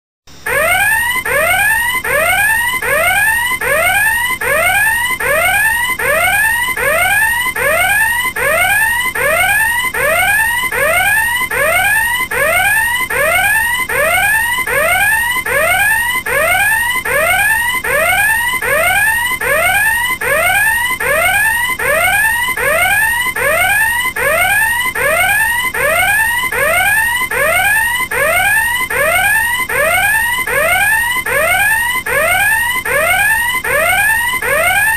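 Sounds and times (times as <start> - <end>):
electronic alarm whooping: 0.5 - 34.9.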